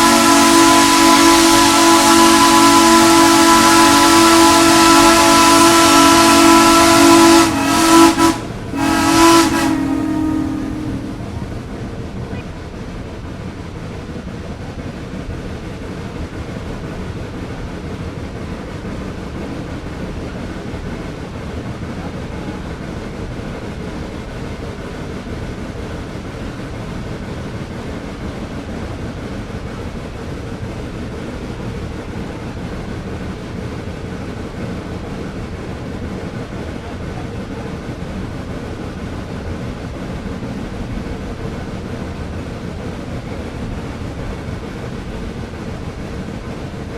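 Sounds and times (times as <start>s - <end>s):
steam train rumbling: 0.0s - 46.9s.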